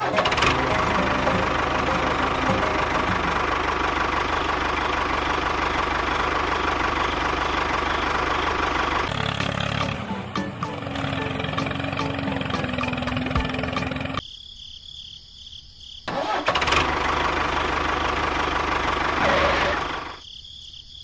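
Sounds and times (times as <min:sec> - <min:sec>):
small engine idling: 0:00.0 - 0:14.2, 0:16.2 - 0:20.2.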